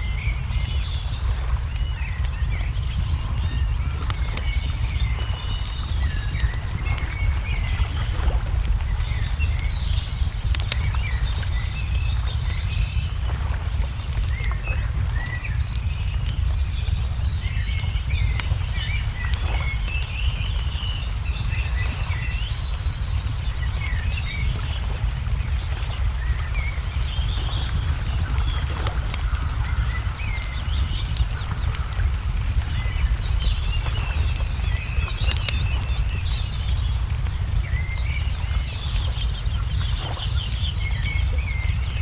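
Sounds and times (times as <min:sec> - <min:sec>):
small birds chirping: 0:00.0 - 0:42.0
steady low rumble: 0:00.0 - 0:42.0
wood fire crackling: 0:00.0 - 0:42.0.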